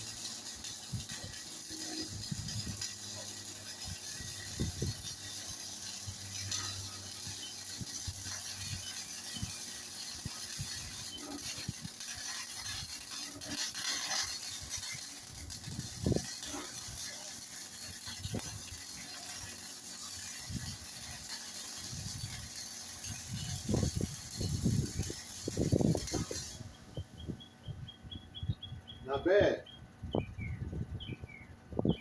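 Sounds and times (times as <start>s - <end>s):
welding arc hissing and crackling: 0.0s - 27.5s, 29.0s - 29.6s.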